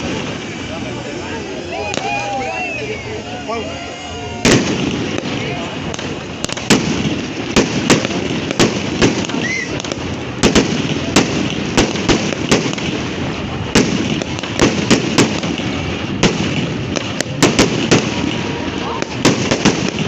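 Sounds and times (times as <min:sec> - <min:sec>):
bonfire crackling and popping: 0:00.0 - 0:20.0
fire rushing: 0:00.0 - 0:20.0.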